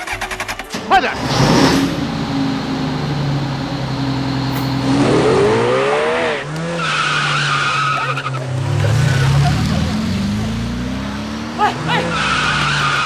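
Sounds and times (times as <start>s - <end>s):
high tire squeal: 0.0s - 9.5s, 11.4s - 13.0s
car engine revving: 0.0s - 13.0s.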